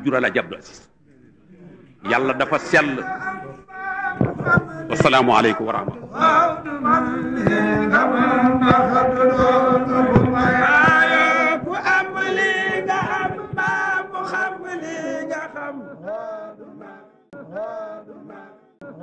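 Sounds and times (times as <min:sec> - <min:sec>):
male voices chanting: 0:01.2 - 0:19.0.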